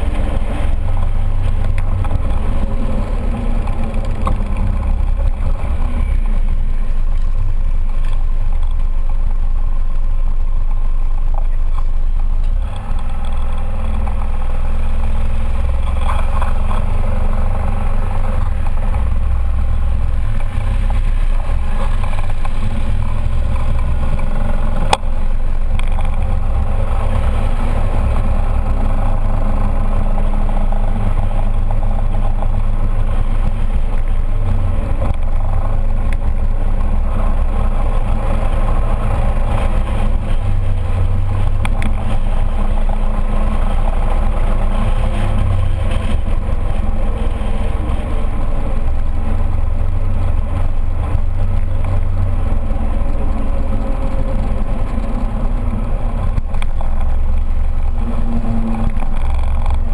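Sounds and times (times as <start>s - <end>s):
scooter engine drone: 0.0s - 59.9s
wind rumble: 0.0s - 59.9s.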